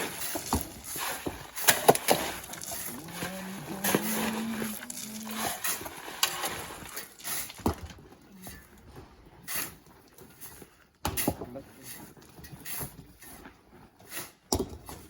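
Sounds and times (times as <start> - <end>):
shovel scraping sand: 0.0 - 7.8, 9.5 - 13.4, 14.0 - 14.4.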